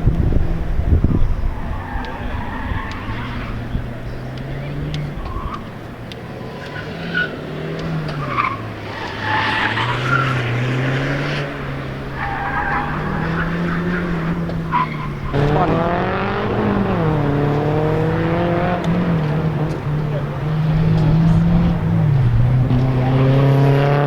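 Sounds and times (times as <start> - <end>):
car engine revving: 0.0 - 24.0
tyres squealing: 1.5 - 23.2.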